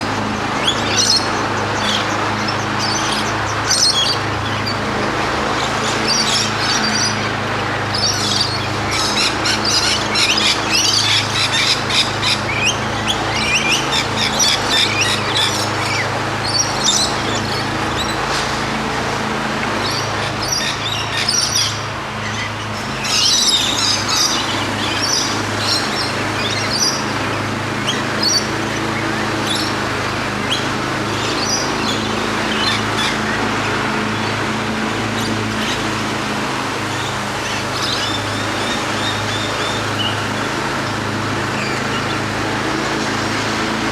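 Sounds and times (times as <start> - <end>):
wild birds chirping: 0.0 - 43.9.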